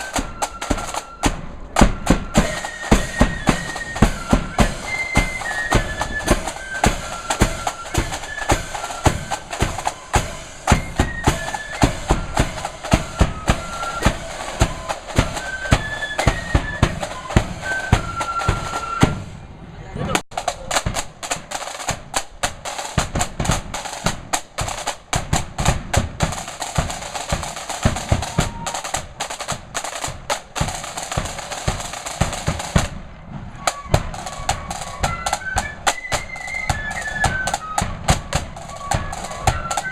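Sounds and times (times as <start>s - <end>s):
snare drum rolls: 0.0s - 19.4s, 20.2s - 39.9s
flute melody: 0.0s - 19.7s, 26.2s - 32.9s, 33.5s - 39.9s.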